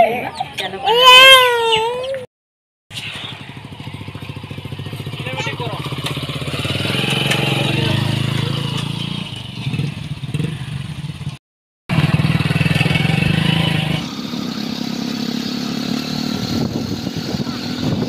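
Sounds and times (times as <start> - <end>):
motorcycle engine running: 3.1 - 18.0.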